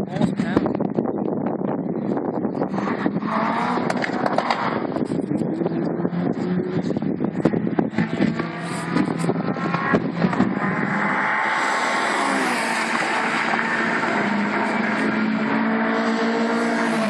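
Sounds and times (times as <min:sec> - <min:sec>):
race car engines: 0:00.0 - 0:17.0
wind buffeting microphone: 0:00.0 - 0:17.0.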